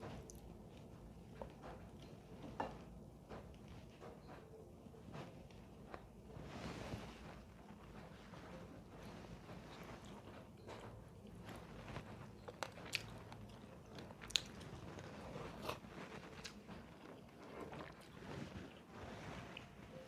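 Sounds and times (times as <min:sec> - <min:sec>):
person chewing food: 0:00.0 - 0:04.4, 0:07.0 - 0:20.0.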